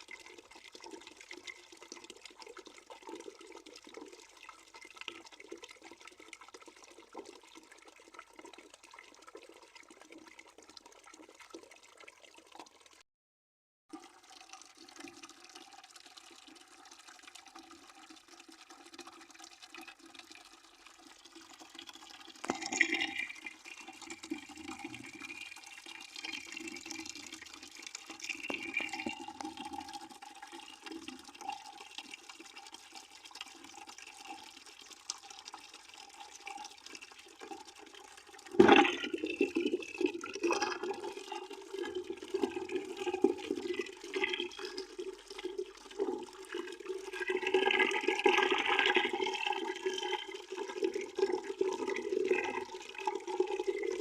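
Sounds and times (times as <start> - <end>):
water running into a bucket: 0.0 - 13.0, 13.9 - 54.0.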